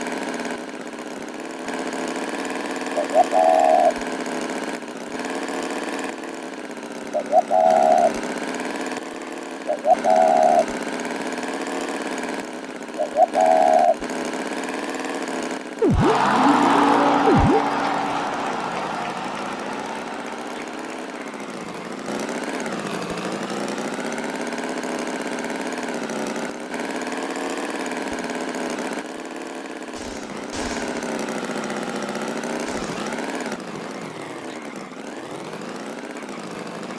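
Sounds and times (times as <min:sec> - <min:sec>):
buzzing engine running: 0:00.0 - 0:36.9.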